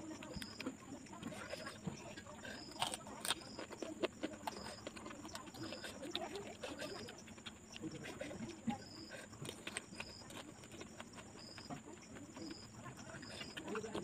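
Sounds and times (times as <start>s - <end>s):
wet chewing: 0.0s - 14.0s.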